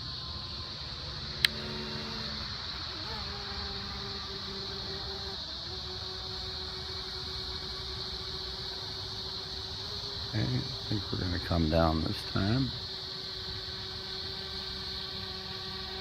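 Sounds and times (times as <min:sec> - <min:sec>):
electric motors and propellers whining: 0:00.0 - 0:16.0.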